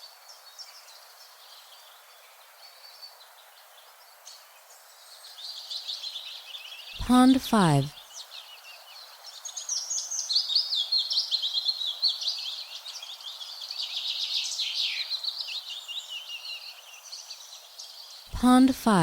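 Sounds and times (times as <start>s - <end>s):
songbirds chirping and trilling: 0.0s - 7.0s, 7.9s - 18.3s.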